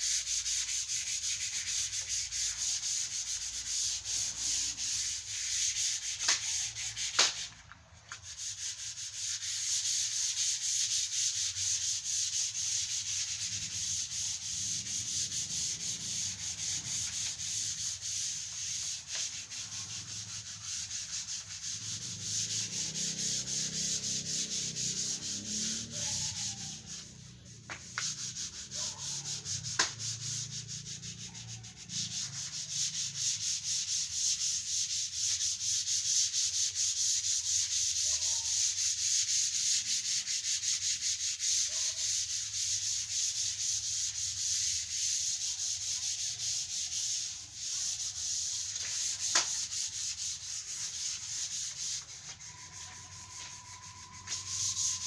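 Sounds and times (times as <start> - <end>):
sandpaper rubbing on wood: 0.0 - 55.0.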